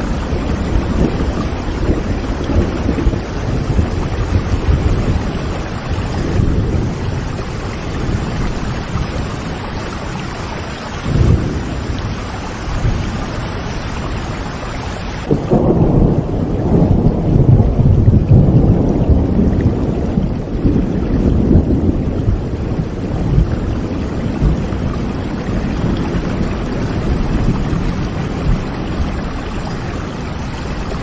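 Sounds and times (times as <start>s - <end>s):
deep rumbling thunder: 0.0s - 14.4s, 15.2s - 31.0s
steady rain: 0.0s - 31.0s.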